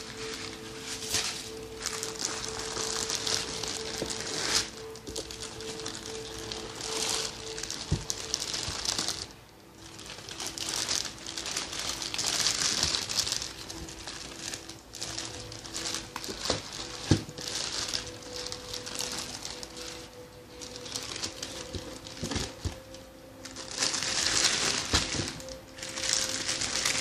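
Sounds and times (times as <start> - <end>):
packaging crinkling and rustling: 0.0 - 27.0.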